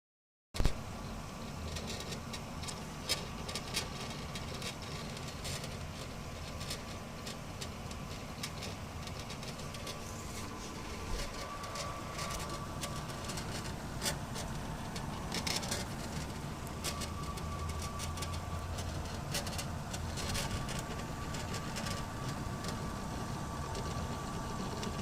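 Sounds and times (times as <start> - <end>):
faint whine: 0.6 - 25.0
hard drive spinning hum: 0.6 - 25.0.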